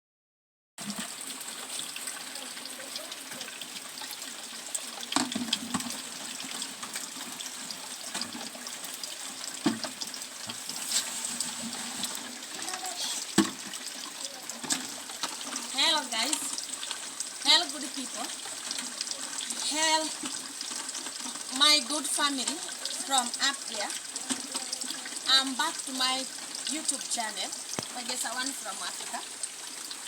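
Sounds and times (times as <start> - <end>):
rain falling: 0.8 - 30.0
water dripping: 0.8 - 30.0
water running and splashing: 0.8 - 30.0.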